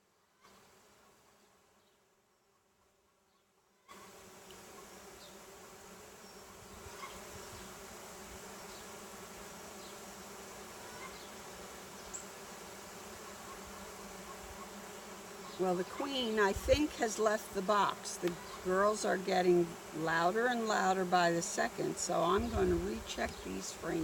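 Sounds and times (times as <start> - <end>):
honeybees buzzing: 3.9 - 24.0.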